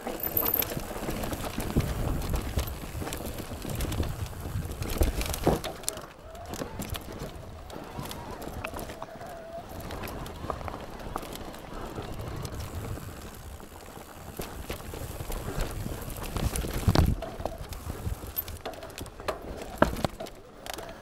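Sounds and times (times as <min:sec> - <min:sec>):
bike knocks and rattles: 0:00.0 - 0:09.0, 0:12.5 - 0:21.0
wind and tyre noise: 0:00.0 - 0:21.0.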